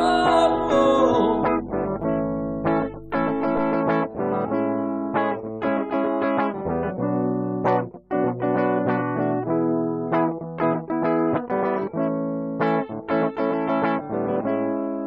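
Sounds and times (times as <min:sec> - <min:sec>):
guitar plucked notes and chords: 0:00.0 - 0:15.0.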